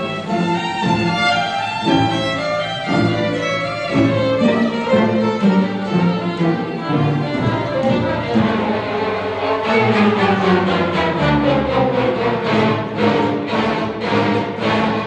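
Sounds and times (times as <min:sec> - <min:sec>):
string orchestra playing fast: 0:00.0 - 0:15.0.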